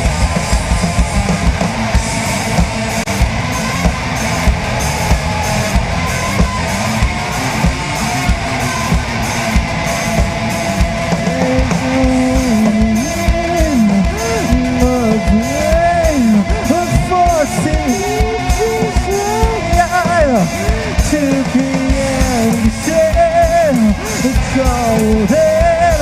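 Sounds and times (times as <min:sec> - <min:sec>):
distorted electric guitars: 0:00.0 - 0:26.0
drum kit beat: 0:00.0 - 0:26.0
melodic guitar line bending notes: 0:00.0 - 0:26.0.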